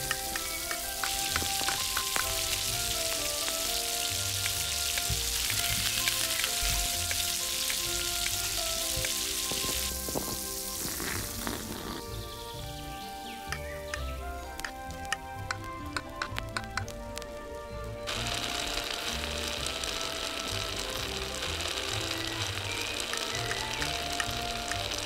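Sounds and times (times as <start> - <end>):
gentle plucked background music: 0.0 - 25.0
hot oil sizzling: 0.0 - 25.0.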